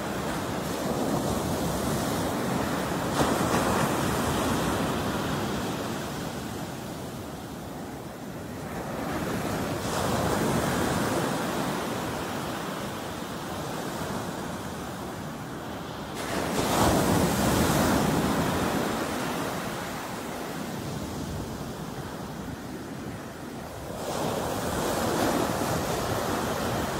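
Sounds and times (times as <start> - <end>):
ocean surf breaking: 0.0 - 7.2, 7.8 - 26.9.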